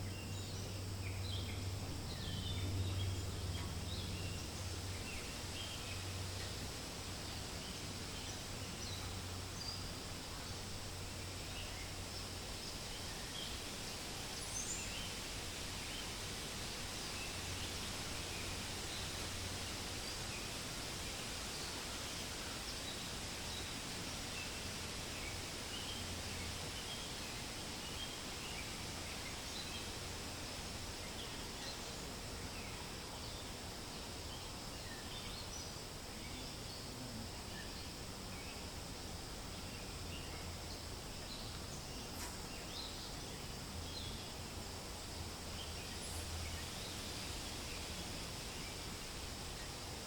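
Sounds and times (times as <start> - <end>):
wind rustling leaves: 0.0 - 50.0.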